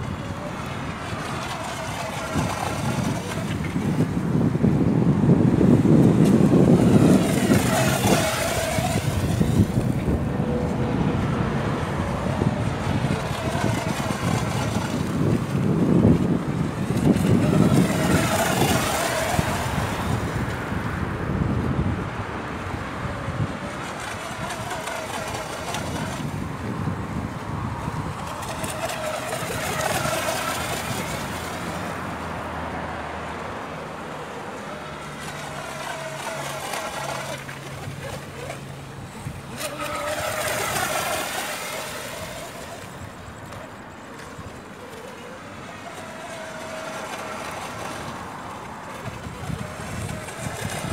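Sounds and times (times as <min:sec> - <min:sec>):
electric motor whining: 0:00.0 - 0:21.8, 0:23.0 - 0:33.1, 0:34.0 - 0:50.9.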